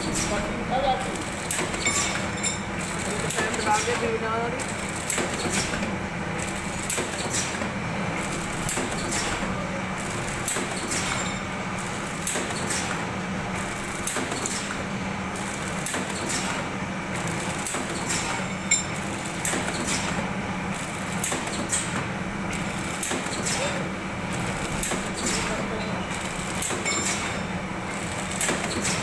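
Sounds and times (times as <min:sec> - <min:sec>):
machine clacks: 0:00.0 - 0:29.0
packing machine hum: 0:00.0 - 0:29.0.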